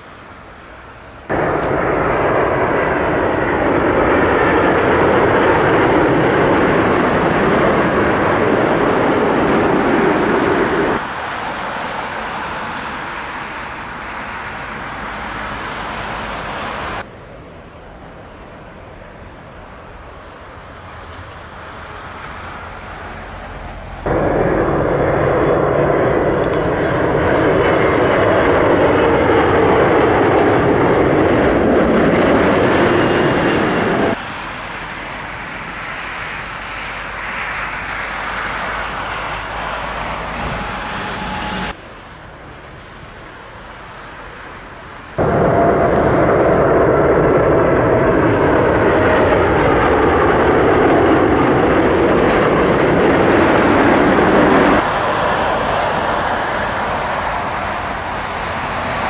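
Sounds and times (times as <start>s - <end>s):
airliner engines whining: 0.0s - 59.0s.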